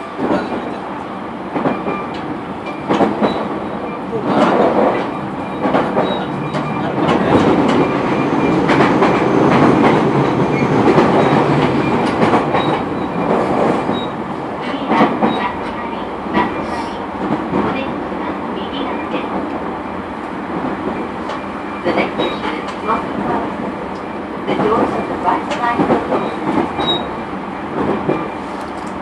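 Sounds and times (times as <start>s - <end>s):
clickety-clack of rail joints: 0.0s - 29.0s
train wheels rumbling on rail: 0.0s - 29.0s.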